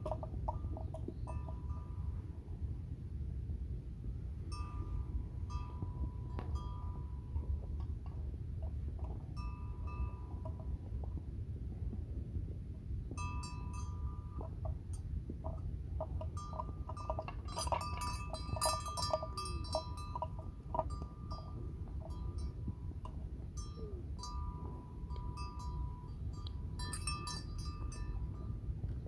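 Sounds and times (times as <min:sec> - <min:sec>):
animal bell clanking: 0:00.0 - 0:02.6, 0:04.4 - 0:11.2, 0:13.1 - 0:29.0
low rumble: 0:00.0 - 0:29.0.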